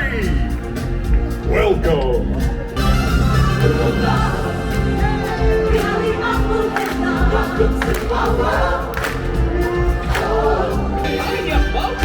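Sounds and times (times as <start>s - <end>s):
choir singing over backing track: 0.0s - 12.0s.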